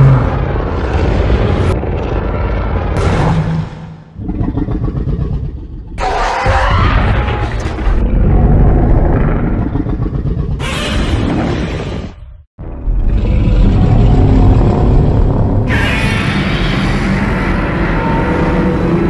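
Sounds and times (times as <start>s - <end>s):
monster roars: 0.0s - 11.9s, 12.7s - 19.0s.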